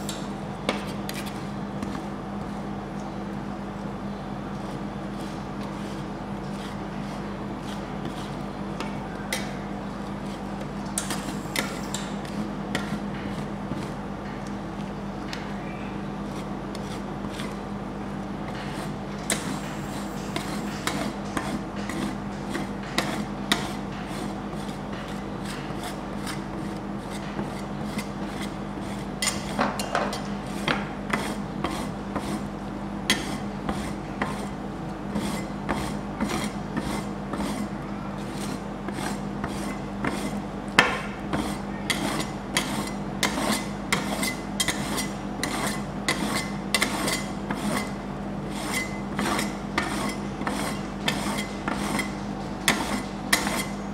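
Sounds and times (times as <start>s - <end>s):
steady low hum: 0.0s - 53.9s
metal spatulas scraping ice cream: 4.6s - 9.6s, 10.2s - 14.0s, 16.3s - 17.6s, 18.5s - 32.5s, 33.1s - 40.4s, 41.0s - 53.8s.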